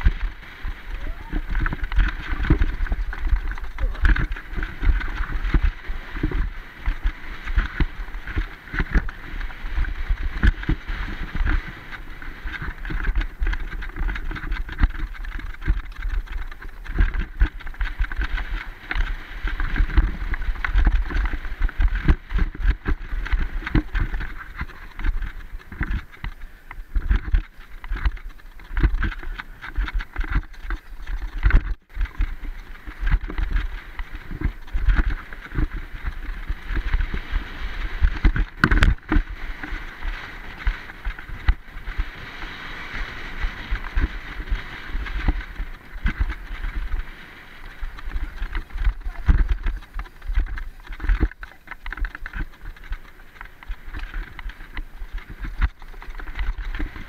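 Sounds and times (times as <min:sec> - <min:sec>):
bike jolting thumps and rattles: 0:00.0 - 0:57.0
bike tyre and trail rumble: 0:00.0 - 0:57.0.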